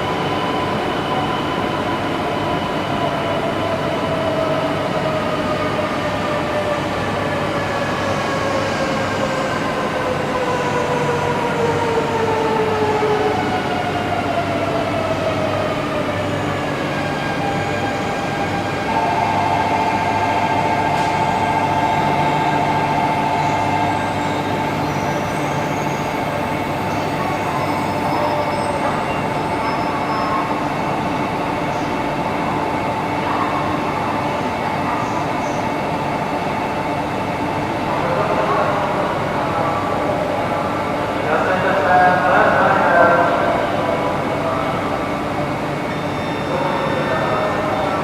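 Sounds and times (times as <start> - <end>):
train running noise: 0.0 - 48.0.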